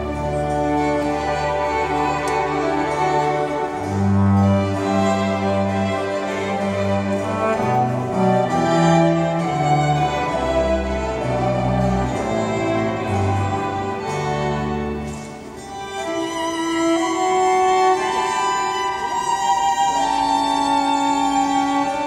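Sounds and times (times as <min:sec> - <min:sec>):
string orchestra with harpsichord: 0:00.0 - 0:22.0.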